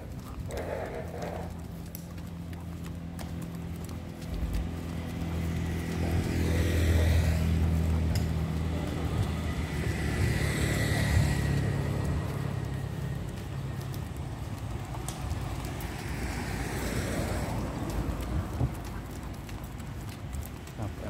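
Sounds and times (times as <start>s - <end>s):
low engine hum: 0.0s - 21.0s
vehicles driving past: 0.0s - 21.0s.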